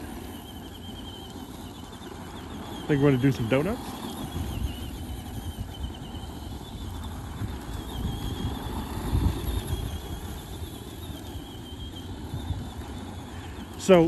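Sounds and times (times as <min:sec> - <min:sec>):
rc truck motor whine: 0:00.0 - 0:14.0
tyres rumbling on gravel: 0:00.0 - 0:14.0.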